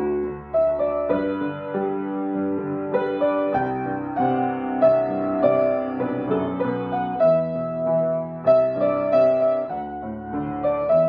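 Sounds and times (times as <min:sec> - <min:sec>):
grand piano playing: 0:00.0 - 0:11.0.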